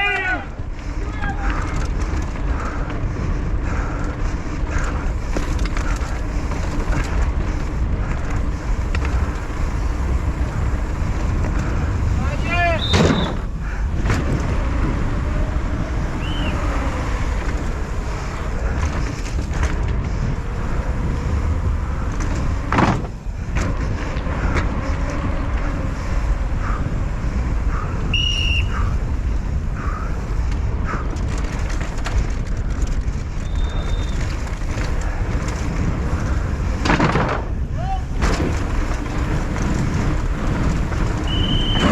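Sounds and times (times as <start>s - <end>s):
bike tyres rumbling: 0.0s - 41.9s.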